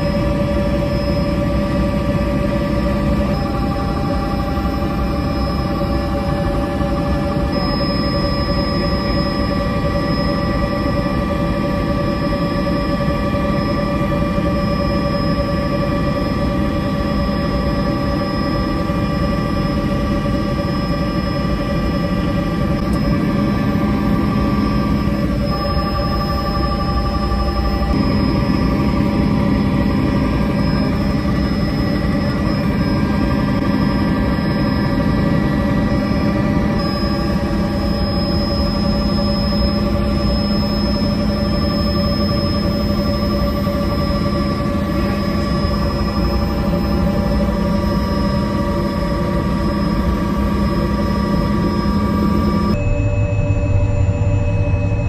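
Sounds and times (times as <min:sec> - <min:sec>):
helicopter engine and rotor noise: 0:00.0 - 0:55.0
thin high whine: 0:00.0 - 0:55.0.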